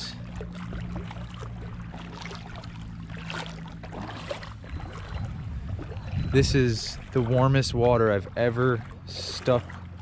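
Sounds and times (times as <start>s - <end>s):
low hum: 0.0s - 10.0s
water splashing around wading legs: 0.0s - 10.0s.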